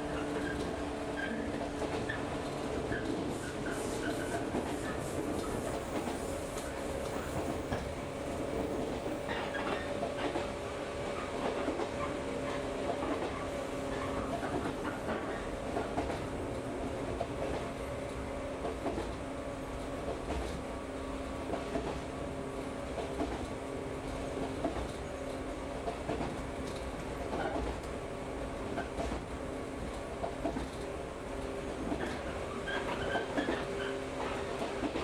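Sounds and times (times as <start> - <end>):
clicks of train wheels: 0.0 - 20.7, 21.3 - 22.1, 22.9 - 35.0
train wheels rumbling on rails: 0.0 - 35.0.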